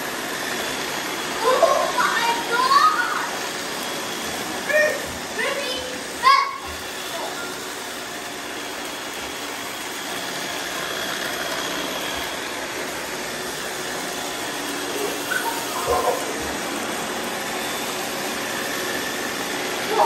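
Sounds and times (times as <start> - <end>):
robot vacuums humming: 0.0 - 20.0.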